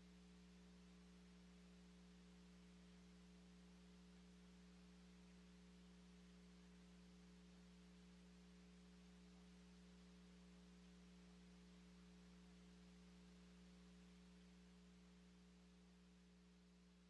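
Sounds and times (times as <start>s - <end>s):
faint electrical hum with hiss: 0.0s - 17.0s.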